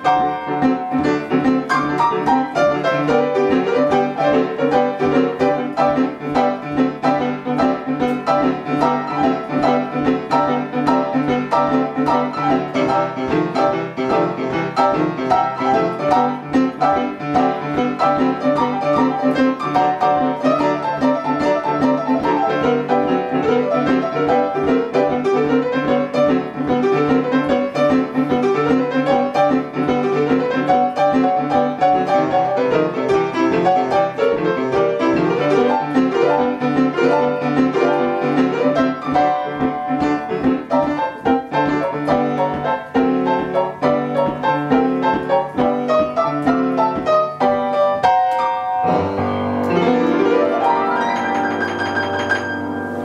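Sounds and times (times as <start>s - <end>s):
boogie-woogie piano solo: 0.0s - 53.0s.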